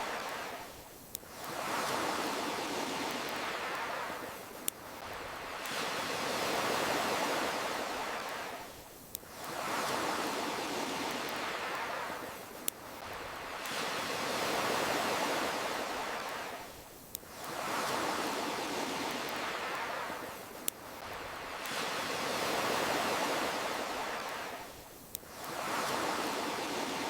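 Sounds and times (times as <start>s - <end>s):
ocean surf washing in and out: 0.0s - 27.0s.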